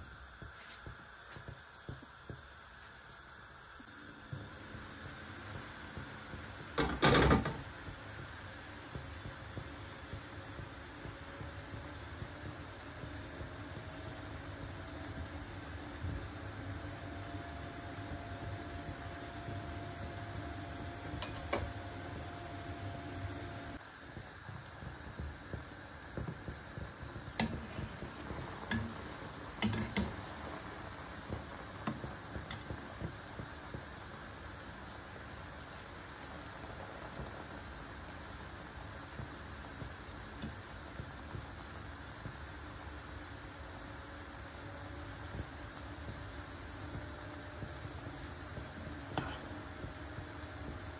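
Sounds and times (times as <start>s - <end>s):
syrup boiling with bubbling hiss: 0.0s - 50.9s.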